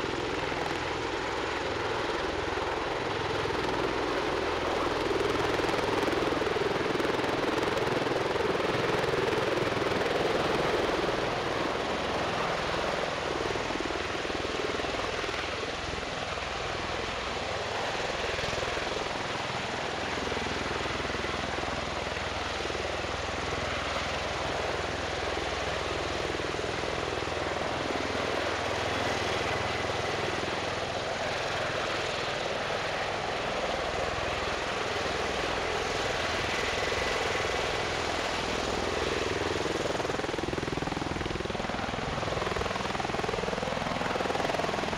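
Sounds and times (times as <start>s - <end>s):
tiltrotor aircraft in flight: 0.0s - 44.9s.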